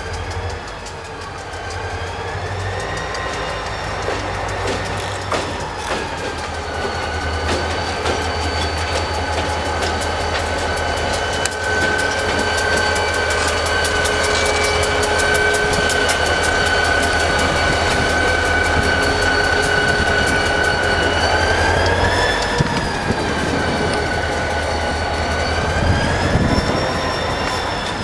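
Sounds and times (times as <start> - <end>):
diesel locomotive engine rumble: 0.0 - 28.0
high-pitched squeal: 0.0 - 28.0
wheels clicking over rail joints: 0.0 - 28.0.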